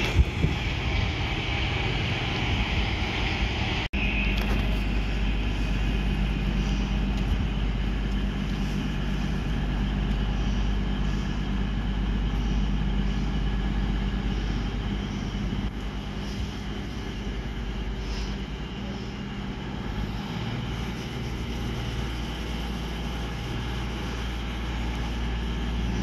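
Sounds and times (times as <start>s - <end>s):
train running past: 0.0s - 26.0s.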